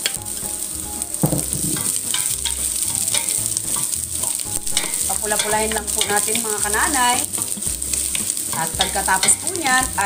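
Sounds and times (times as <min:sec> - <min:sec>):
garlic and onion sizzling in oil: 0:00.0 - 0:10.0
wooden spatula scraping a pot: 0:00.0 - 0:10.0.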